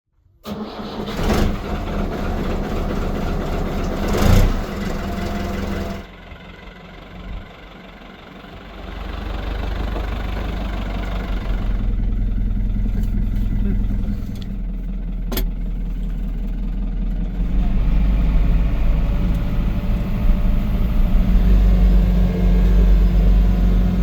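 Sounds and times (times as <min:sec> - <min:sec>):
tractor diesel engine running: 0:00.4 - 0:24.0.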